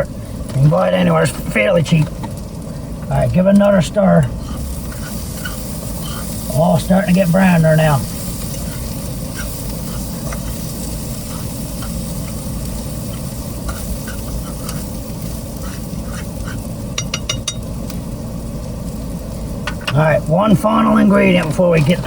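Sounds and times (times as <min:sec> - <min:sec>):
food sizzling in a frying pan: 0:00.2 - 0:22.0.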